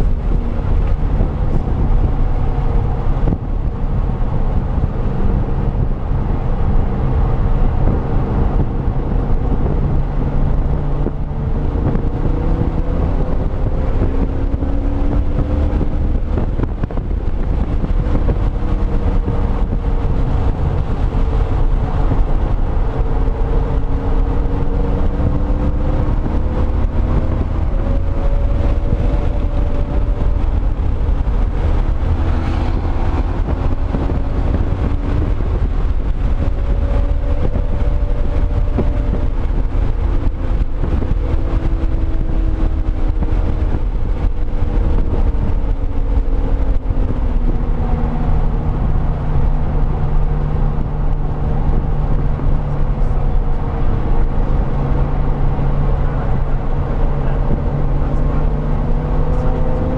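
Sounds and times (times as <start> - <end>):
car engine accelerating: 0.0 - 59.9
wind and road noise: 0.0 - 59.9.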